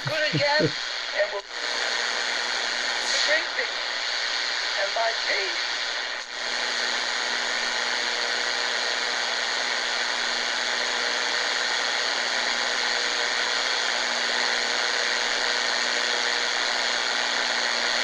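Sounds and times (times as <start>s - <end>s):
faint steady hum: 0.0s - 18.0s
radio static hiss: 0.0s - 18.0s.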